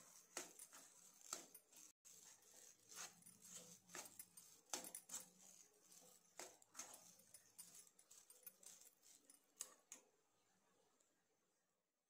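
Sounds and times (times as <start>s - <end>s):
metal spoon scraping a pan: 0.0s - 10.0s.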